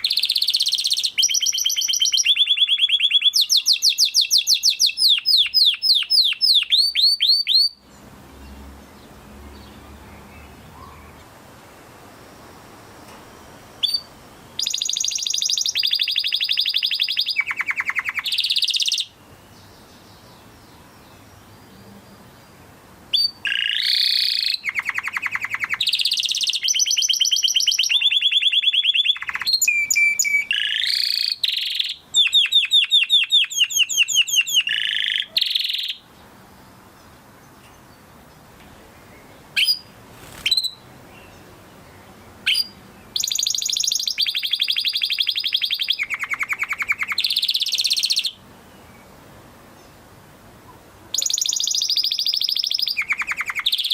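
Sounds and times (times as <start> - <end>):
canary singing in trills: 0.0 - 11.3, 13.8 - 49.2, 51.1 - 53.9.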